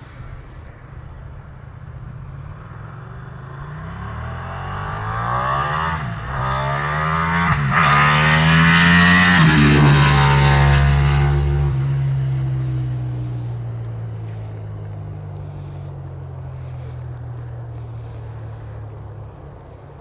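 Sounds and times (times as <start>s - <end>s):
motorcycle engine accelerating: 1.8s - 20.0s.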